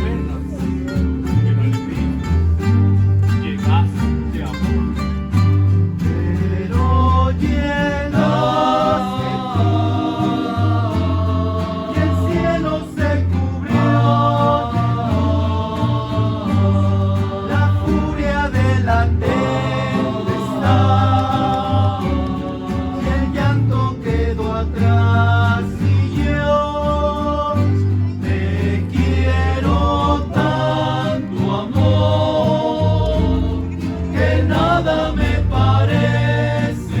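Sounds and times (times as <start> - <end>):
guitar accompaniment: 0.0 - 37.0
steady bass line: 0.0 - 37.0
group singing in harmony: 5.7 - 37.0.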